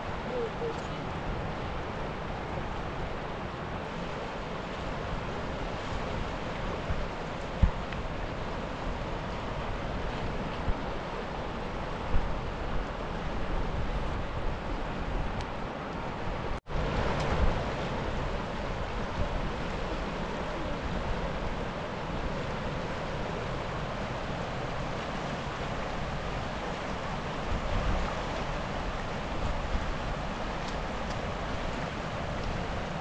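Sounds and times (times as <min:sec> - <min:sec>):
flowing river water: 0:00.0 - 0:33.0.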